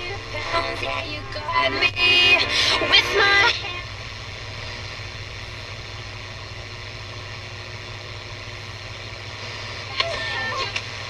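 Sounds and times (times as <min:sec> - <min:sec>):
low hum: 0:00.0 - 0:11.0
radio music: 0:00.0 - 0:11.0
radio static hiss: 0:00.0 - 0:11.0.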